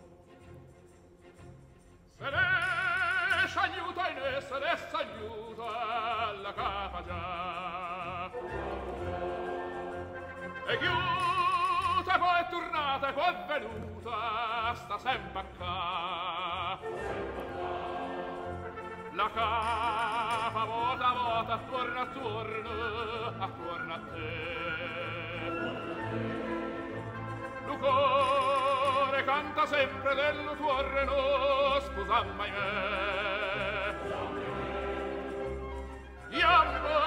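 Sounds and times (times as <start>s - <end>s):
opera orchestra and singing: 0.0s - 37.0s.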